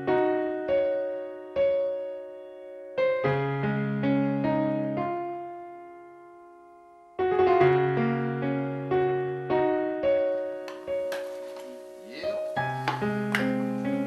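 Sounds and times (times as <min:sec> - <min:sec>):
solo piano chords: 0:00.0 - 0:14.0.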